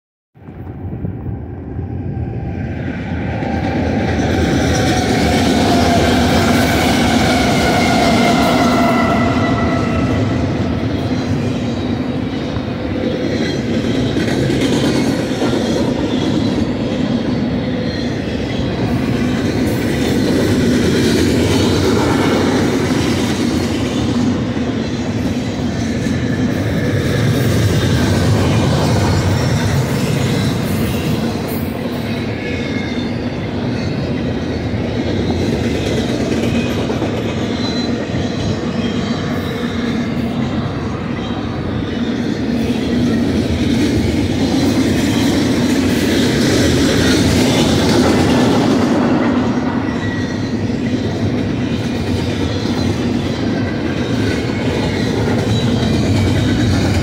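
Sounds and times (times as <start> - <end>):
diesel locomotives passing: 0.4 - 57.0
train wheels rumbling on rails: 0.4 - 57.0.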